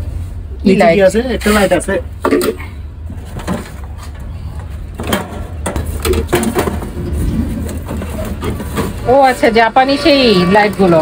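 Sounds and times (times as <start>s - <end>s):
low rumble of road traffic: 0.0s - 11.0s.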